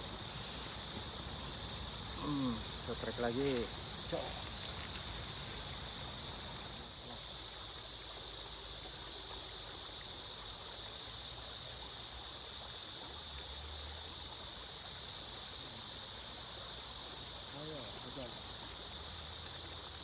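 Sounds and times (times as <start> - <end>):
high-pitched outdoor hiss: 0.0 - 20.0.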